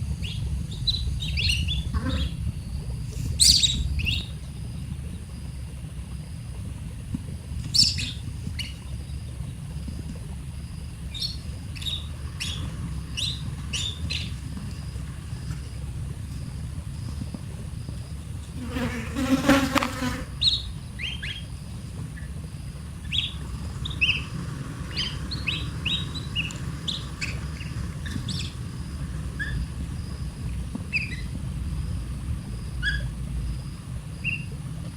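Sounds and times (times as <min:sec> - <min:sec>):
steady low rumble: 0:00.0 - 0:18.7, 0:20.3 - 0:34.9
low buzz: 0:00.0 - 0:34.9.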